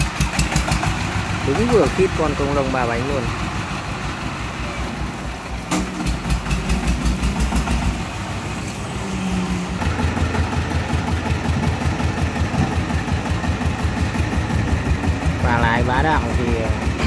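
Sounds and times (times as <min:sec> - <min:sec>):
diesel engine chugging: 0:00.0 - 0:17.0.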